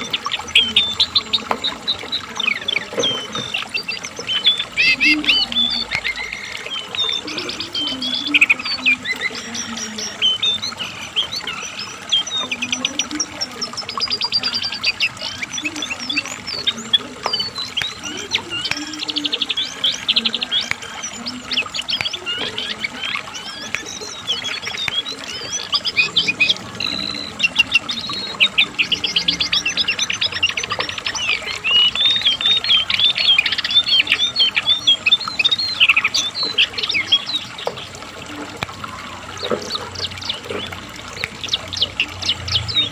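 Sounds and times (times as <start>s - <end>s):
bird singing chirps and trills: 0.0s - 42.9s.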